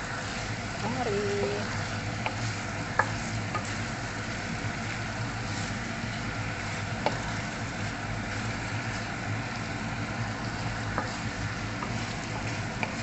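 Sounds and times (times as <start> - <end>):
curry sizzling in oil: 0.0 - 13.0.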